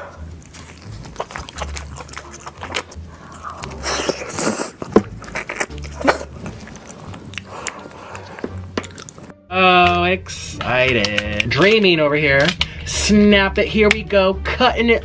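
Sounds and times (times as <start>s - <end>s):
crab shell cracking and crunching: 0.2s - 10.0s, 10.6s - 12.8s.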